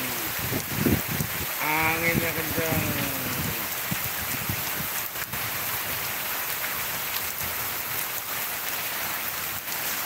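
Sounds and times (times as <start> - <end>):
heavy rain on leaves and paving: 0.0 - 10.0.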